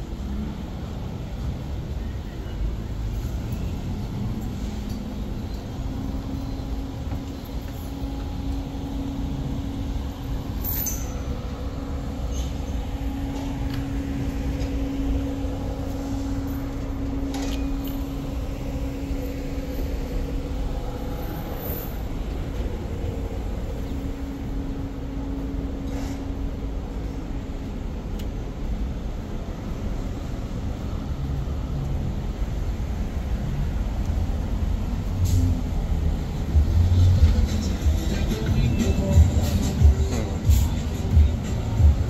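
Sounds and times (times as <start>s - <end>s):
heavy vehicle engine drone: 0.0s - 42.0s
street traffic rumble: 0.0s - 42.0s.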